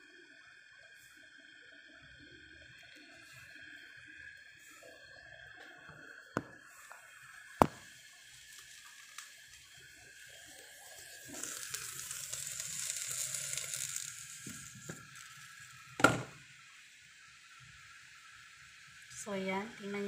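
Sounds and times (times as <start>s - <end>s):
pot simmering with sizzling hiss: 0.0s - 20.0s.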